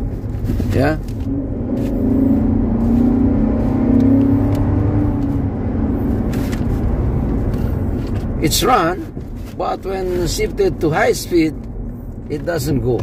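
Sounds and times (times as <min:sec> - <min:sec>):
car engine hum inside cabin: 0:00.0 - 0:13.0.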